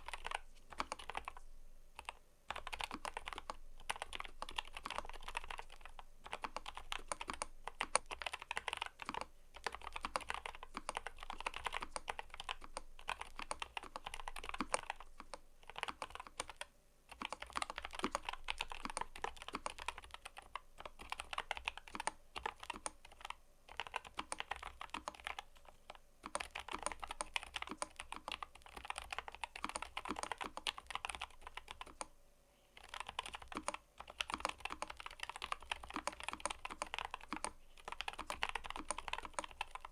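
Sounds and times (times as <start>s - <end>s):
mechanical keyboard typing: 0.0s - 1.4s, 2.0s - 32.1s, 32.8s - 39.9s.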